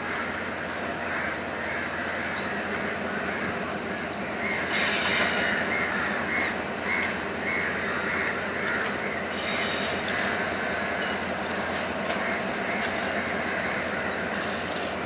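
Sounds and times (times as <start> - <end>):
locomotive rumble: 0.0 - 15.0.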